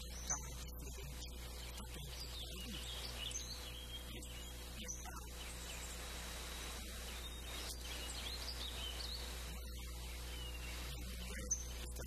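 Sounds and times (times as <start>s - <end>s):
faint bird chirps: 0.0s - 12.0s
steady low hum and hiss: 0.0s - 12.0s.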